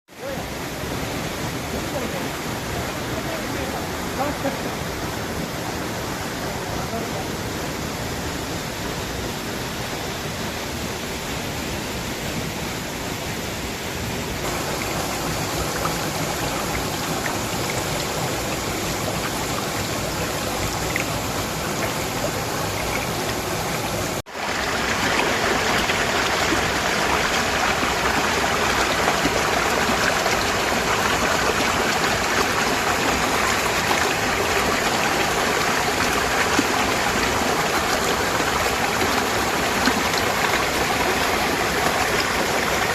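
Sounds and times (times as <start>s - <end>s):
small waterfall rushing: 0.1s - 42.9s.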